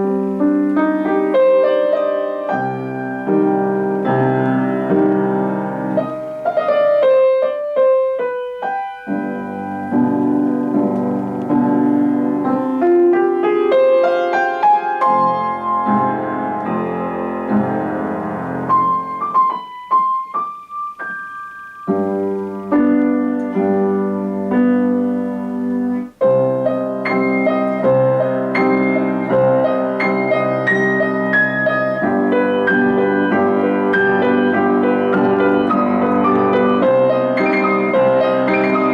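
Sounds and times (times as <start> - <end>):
solo piano classical piece: 0.0 - 38.9.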